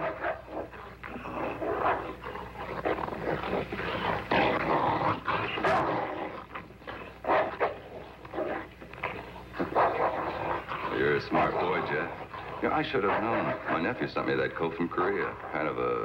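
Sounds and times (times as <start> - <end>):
dog growling: 0.0 - 16.0.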